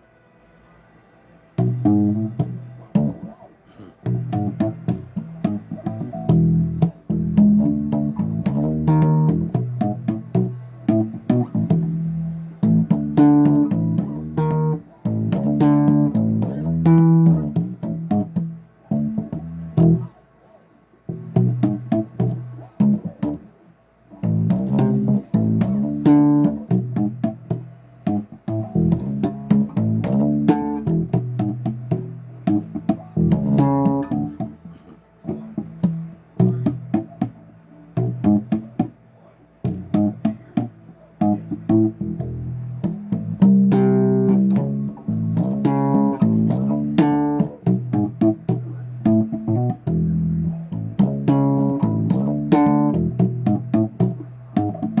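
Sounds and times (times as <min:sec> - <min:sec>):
electric bass guitar: 0:01.6 - 0:20.2, 0:21.1 - 0:39.0, 0:39.6 - 0:55.0.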